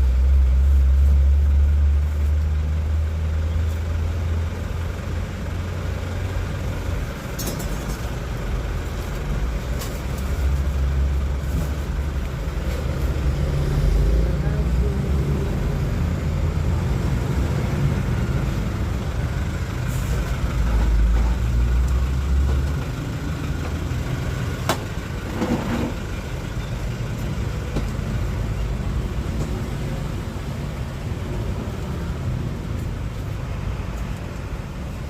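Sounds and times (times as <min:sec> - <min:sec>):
motor traffic rumble: 0:00.0 - 0:35.0.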